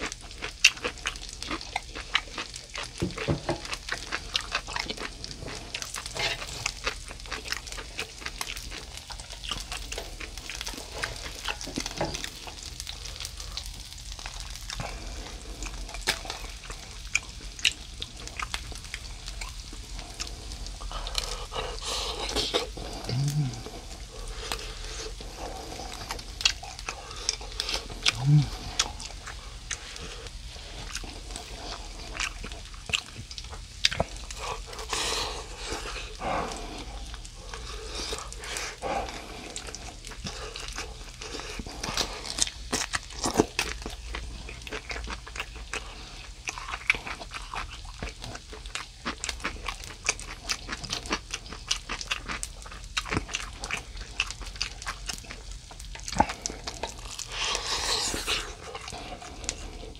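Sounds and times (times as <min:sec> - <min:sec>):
chewing and mouth noises: 0:00.0 - 0:59.9
oil sizzling faintly: 0:00.0 - 0:59.9.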